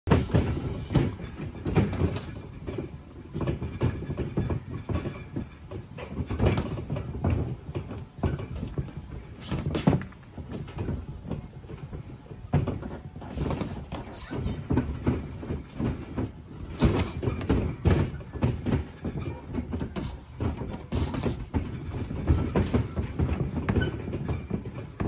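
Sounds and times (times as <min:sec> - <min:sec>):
footwork on ring canvas: 0:00.1 - 0:25.0.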